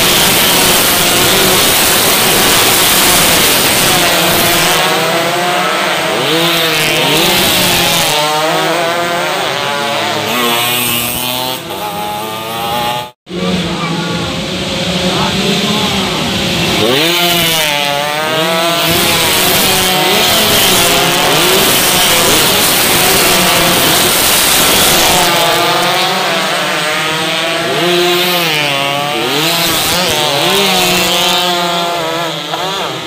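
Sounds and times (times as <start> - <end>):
racing motorcycles passing: 0.0 - 33.0.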